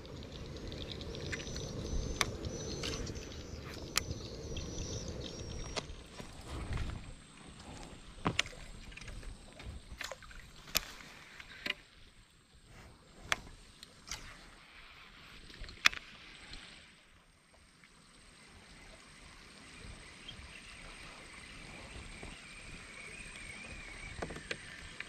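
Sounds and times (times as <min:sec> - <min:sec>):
faint water wash: 0:00.0 - 0:25.0.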